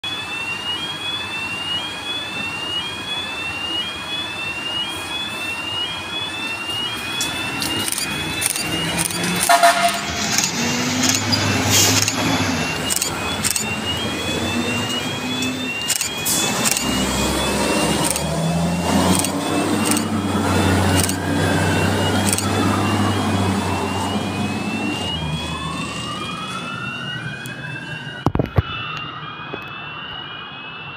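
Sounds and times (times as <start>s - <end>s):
diesel engines running: 0.0s - 28.5s
siren wail: 0.0s - 30.9s
siren yelp: 0.0s - 30.9s.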